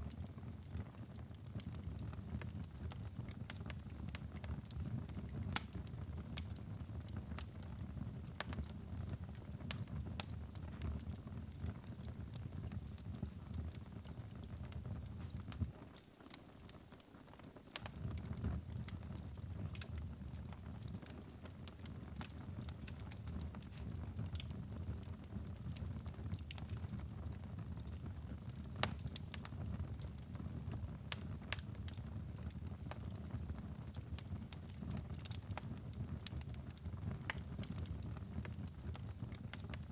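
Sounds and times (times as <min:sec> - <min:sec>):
fire crackles and pops: 0:00.0 - 0:39.9
low rumble of flames: 0:00.1 - 0:15.8, 0:17.8 - 0:39.9.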